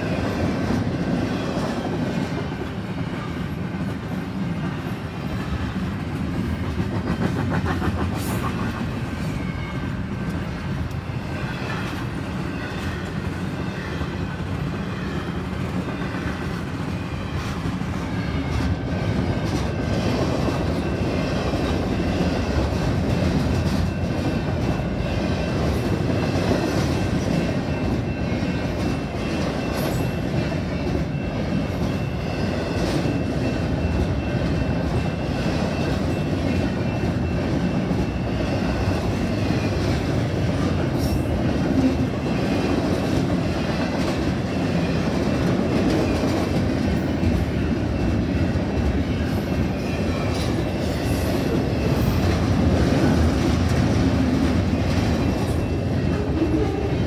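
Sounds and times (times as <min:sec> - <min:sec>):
freight train rumbling past: 0:00.0 - 0:57.0
steel wheels rattling on rails: 0:00.0 - 0:57.0.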